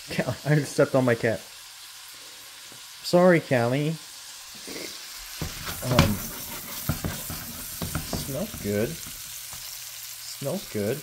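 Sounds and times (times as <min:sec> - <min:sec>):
steak sizzling in frying pan: 0:00.0 - 0:11.0.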